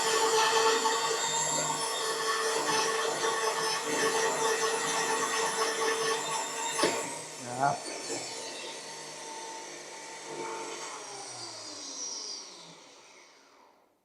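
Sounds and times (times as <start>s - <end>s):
drill squeal: 0.0s - 13.6s
core drill grinding steel: 0.0s - 13.7s
motor winding down: 0.0s - 13.8s.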